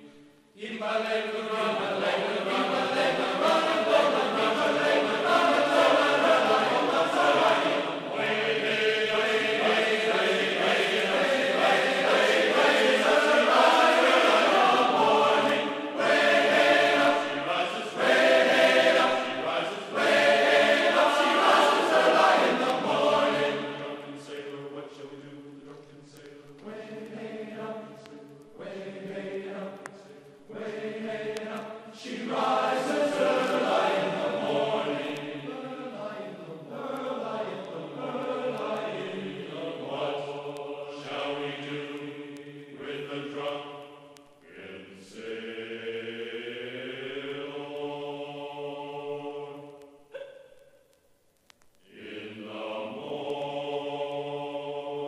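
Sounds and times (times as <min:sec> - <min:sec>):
choir chanting long notes: 0:00.0 - 0:50.4, 0:51.8 - 0:55.0.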